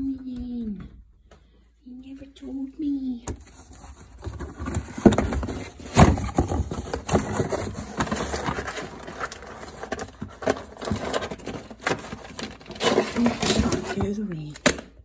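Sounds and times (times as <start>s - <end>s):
rummaging in a cupboard: 2.0s - 14.8s.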